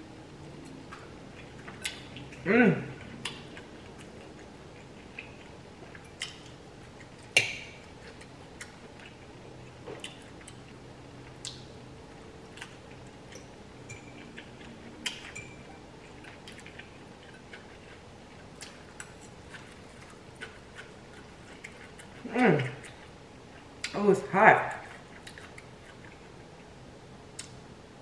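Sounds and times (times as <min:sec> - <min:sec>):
soft chewing: 0:00.2 - 0:27.6.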